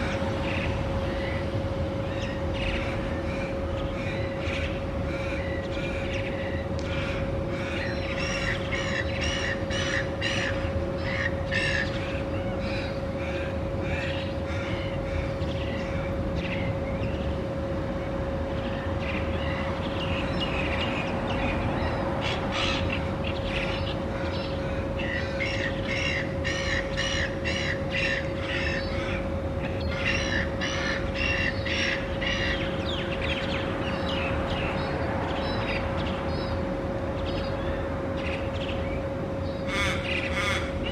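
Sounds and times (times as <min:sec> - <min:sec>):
birds calling harshly: 0:00.0 - 0:40.9
steady hum: 0:00.0 - 0:40.9.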